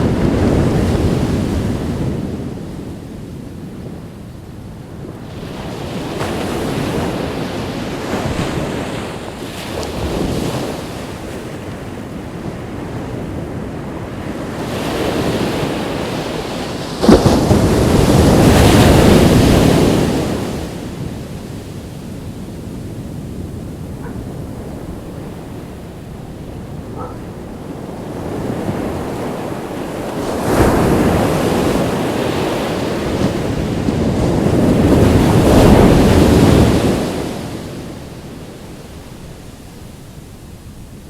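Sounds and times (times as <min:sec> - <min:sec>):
wind buffeting microphone: 0:00.0 - 0:38.0
ocean waves breaking on beach: 0:00.0 - 0:41.0.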